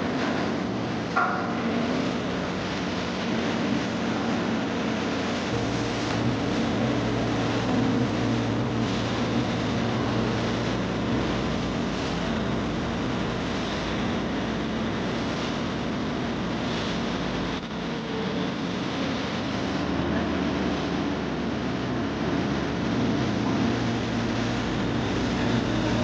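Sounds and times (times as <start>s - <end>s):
low hum: 0.0s - 21.2s.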